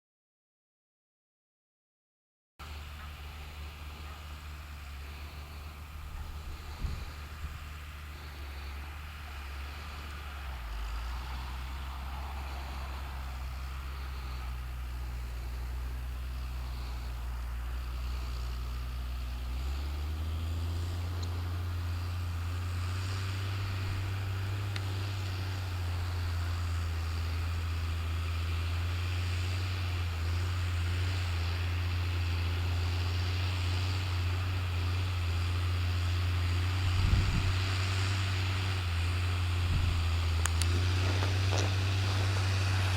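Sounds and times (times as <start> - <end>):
tractor engine running: 2.6 - 42.9.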